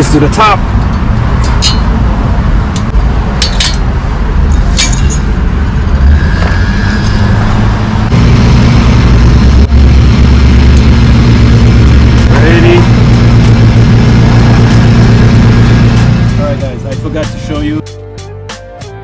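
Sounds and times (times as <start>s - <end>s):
loud steady low rumble: 0.0s - 17.8s.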